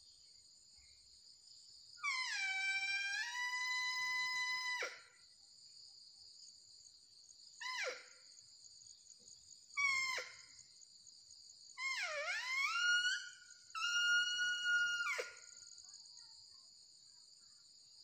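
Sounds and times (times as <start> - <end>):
crickets and insects buzzing: 0.0 - 18.0.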